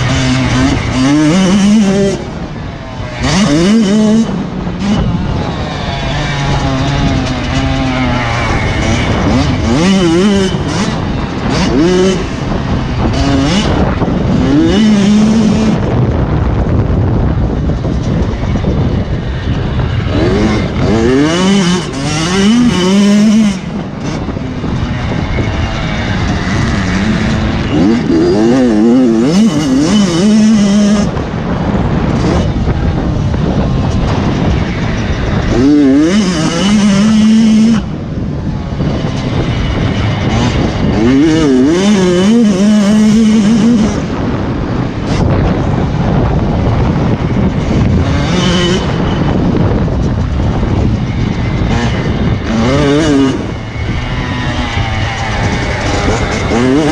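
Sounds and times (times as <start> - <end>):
constant engine din: 0.0 - 56.9
motocross motorcycle engines revving: 0.0 - 56.9.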